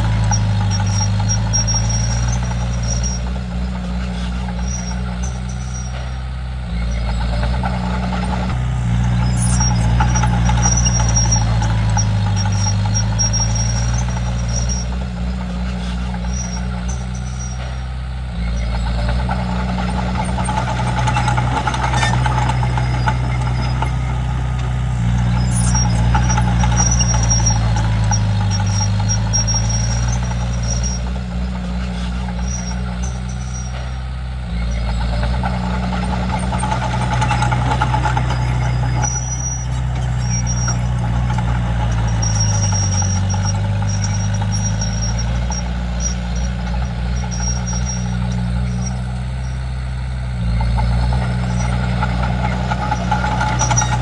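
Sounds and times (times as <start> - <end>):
bulldozer diesel engine working: 0.0 - 54.0
faint high squeak: 0.0 - 54.0.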